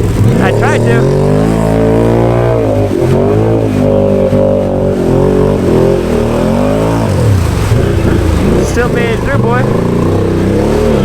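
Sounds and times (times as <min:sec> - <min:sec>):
atv engine revving in mud: 0:00.0 - 0:11.0.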